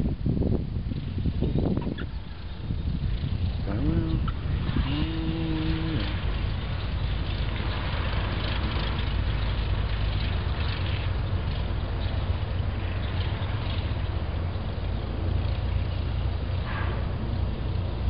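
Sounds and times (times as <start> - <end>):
light aircraft engine drone: 0.0 - 18.0
drawn-out low call: 1.1 - 18.0.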